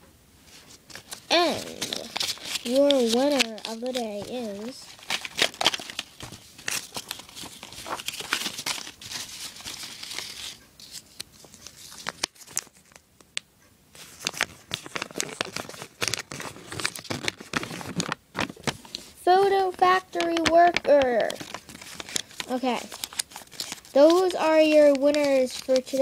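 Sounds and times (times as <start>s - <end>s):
paper crinkling and rustling: 0.5s - 13.1s, 14.0s - 26.0s.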